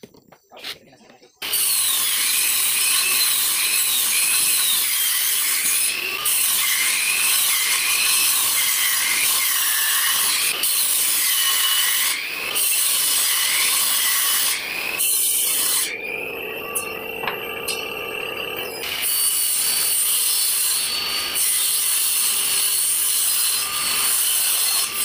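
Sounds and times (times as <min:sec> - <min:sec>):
table saw cutting plywood: 0:01.4 - 0:25.0.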